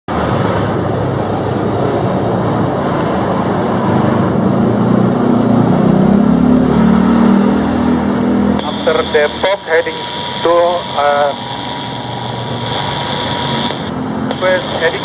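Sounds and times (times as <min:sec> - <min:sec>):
low engine drone: 0:00.1 - 0:15.0
traffic rumble: 0:00.1 - 0:15.0.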